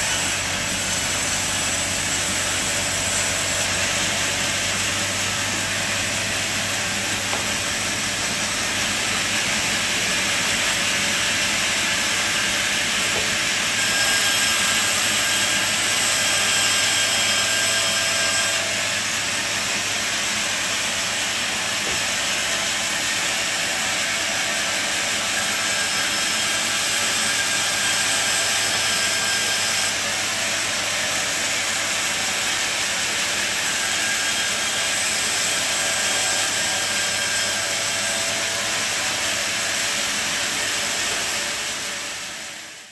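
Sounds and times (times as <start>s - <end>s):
sawmill machine hissing: 0.0s - 42.9s.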